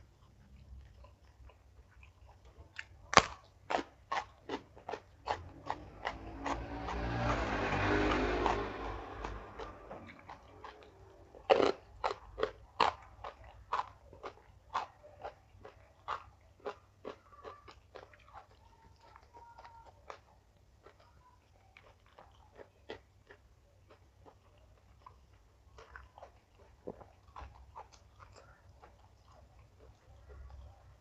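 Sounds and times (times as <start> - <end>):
person crunching raw food: 0.1 - 18.6, 21.8 - 30.8.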